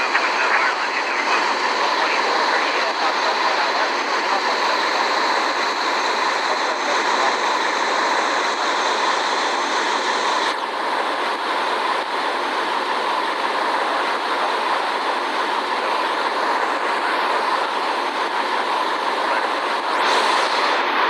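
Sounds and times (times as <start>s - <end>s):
airliner cabin jet noise: 0.0s - 21.0s.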